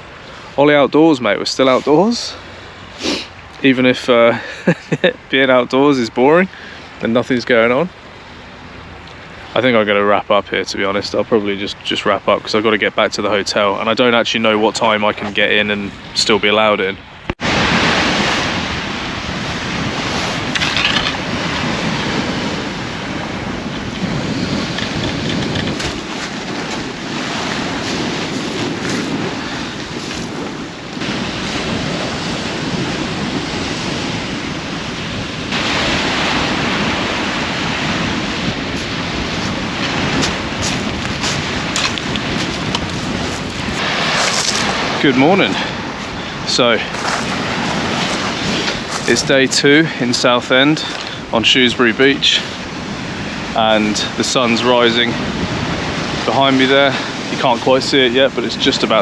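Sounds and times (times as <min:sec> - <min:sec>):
waves washing on beach: 0:00.0 - 0:59.0
wind blowing across microphone: 0:00.0 - 0:59.0.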